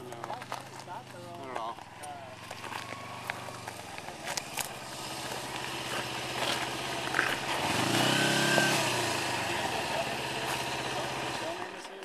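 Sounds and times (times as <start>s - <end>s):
motorcycle engine idling: 0.0s - 12.0s
passing vehicle engine: 0.0s - 12.0s.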